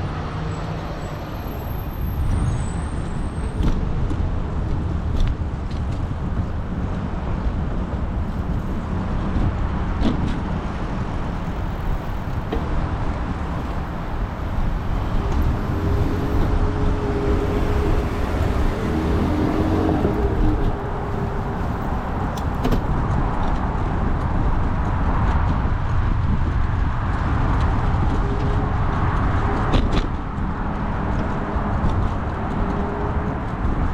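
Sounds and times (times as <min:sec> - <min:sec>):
city traffic noise: 0:00.0 - 0:33.9
passing vehicle engine hum: 0:00.0 - 0:33.9
wind buffeting microphone: 0:01.6 - 0:33.9.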